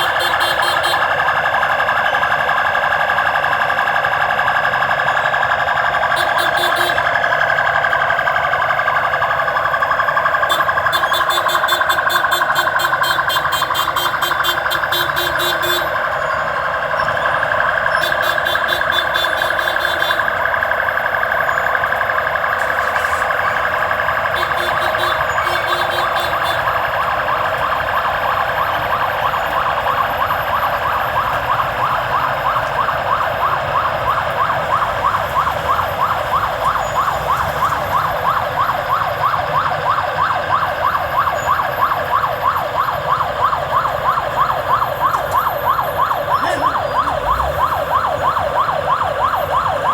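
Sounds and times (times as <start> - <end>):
vehicle siren: 0.0 - 49.9.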